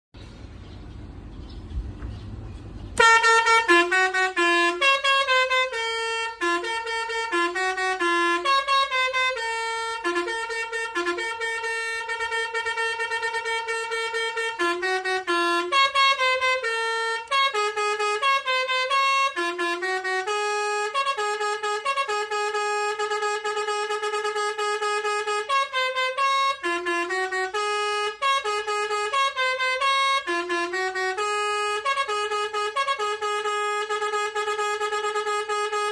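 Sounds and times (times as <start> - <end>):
multi-note bus horn playing tune: 2.7 - 35.9.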